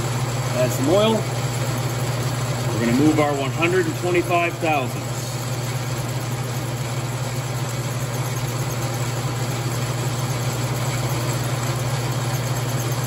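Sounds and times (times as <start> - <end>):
lathe milling hum with hiss: 0.0 - 13.0.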